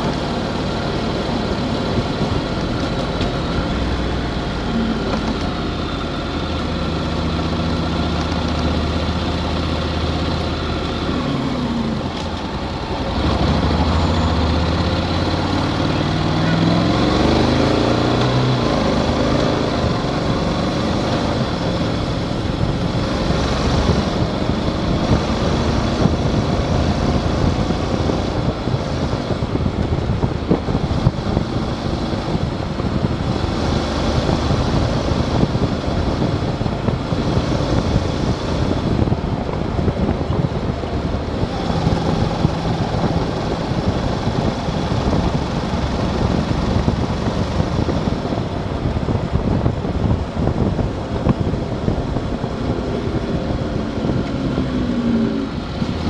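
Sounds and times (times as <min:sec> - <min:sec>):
motorcycle engine accelerating: 0:00.0 - 0:56.0
wind rushing over microphone: 0:00.0 - 0:56.0.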